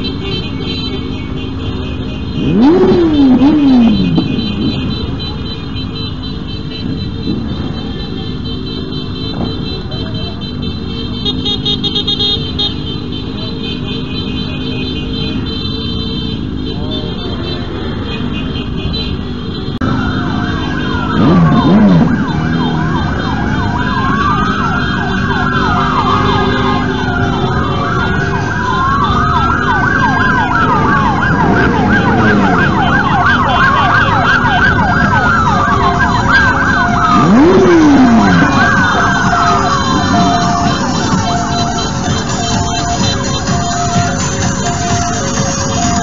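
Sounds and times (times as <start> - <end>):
motorcycle engines running: 0.0 - 46.0
sirens wailing: 0.0 - 46.0.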